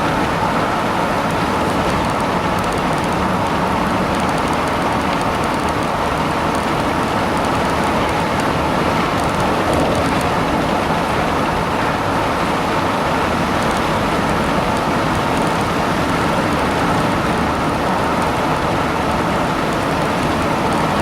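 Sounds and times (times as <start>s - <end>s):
fishing boat engine rushing: 0.0s - 21.0s
water and wind noise: 0.0s - 21.0s.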